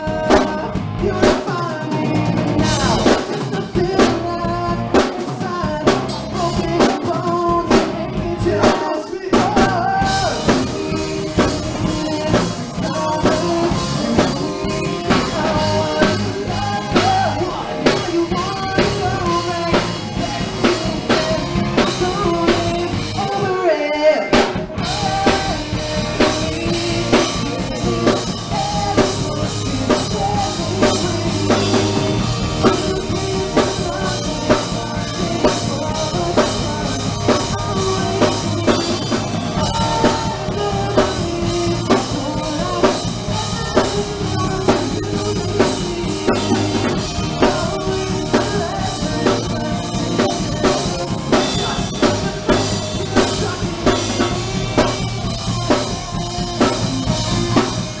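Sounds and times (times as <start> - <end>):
bass guitar: 0.0 - 58.0
drum kit: 0.0 - 58.0
electric guitars: 0.0 - 58.0
man singing: 0.0 - 58.0.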